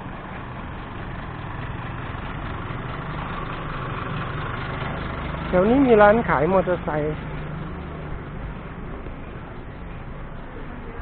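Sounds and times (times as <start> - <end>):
car engine running at low revs: 0.0 - 11.0
road noise: 0.0 - 11.0.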